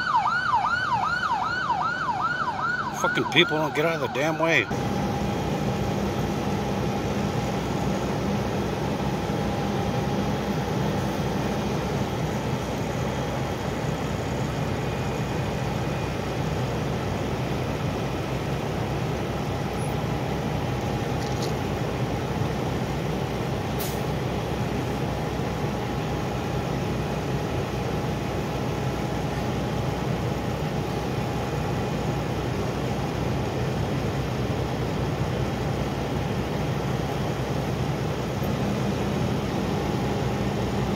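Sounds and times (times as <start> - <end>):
diesel engines idling: 0.0 - 40.9.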